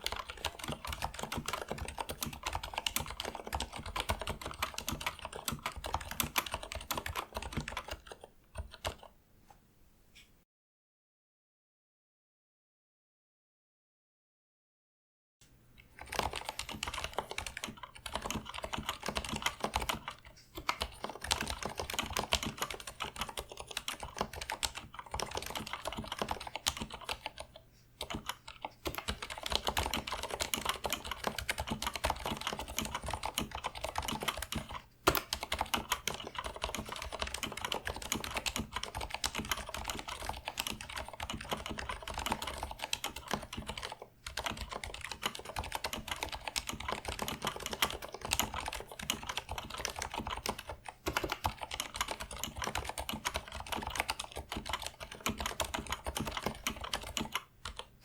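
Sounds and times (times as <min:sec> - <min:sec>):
fast typing on mechanical keyboard: 0:00.0 - 0:09.1, 0:16.0 - 0:57.9.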